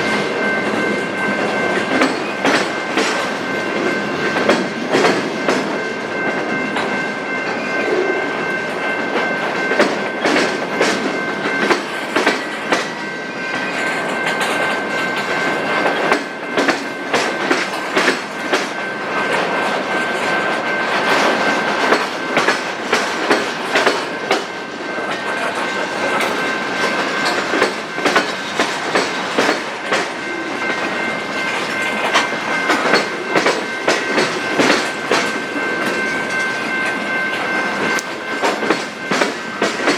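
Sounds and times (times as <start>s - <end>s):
steady train rumbling: 0.0s - 39.9s
train wheels clicking over rail joints: 0.1s - 39.9s.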